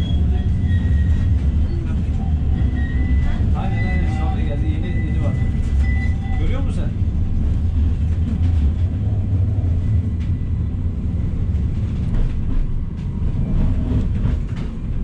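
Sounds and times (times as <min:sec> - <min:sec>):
tram wheels and motors rumbling: 0:00.0 - 0:15.0.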